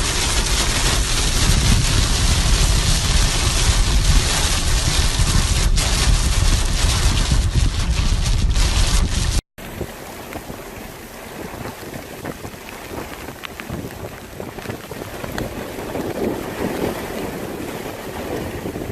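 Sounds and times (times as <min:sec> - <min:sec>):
heavy rain: 0:00.0 - 0:18.9.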